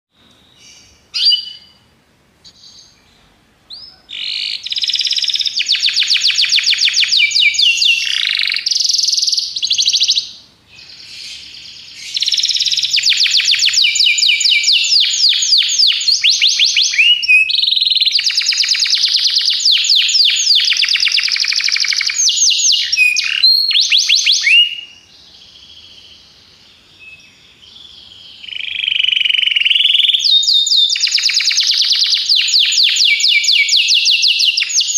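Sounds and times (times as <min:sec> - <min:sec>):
canary singing fast trills: 0:00.4 - 0:34.9.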